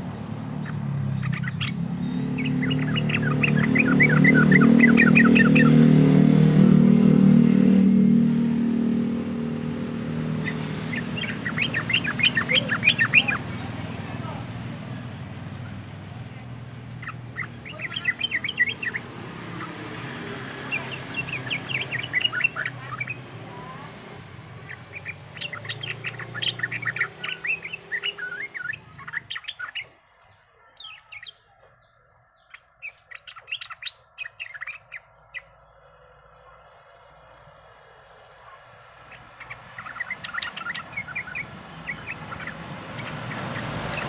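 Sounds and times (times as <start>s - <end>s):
bird chattering song: 0.0s - 44.0s.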